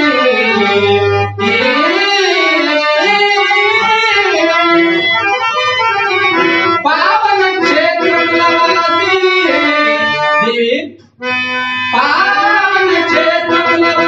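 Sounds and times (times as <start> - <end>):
reed organ accompaniment: 0.0 - 14.0.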